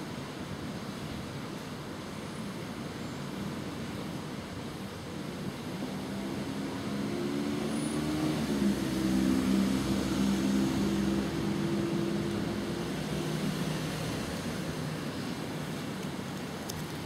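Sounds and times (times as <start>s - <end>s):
background noise: 0.0s - 17.0s.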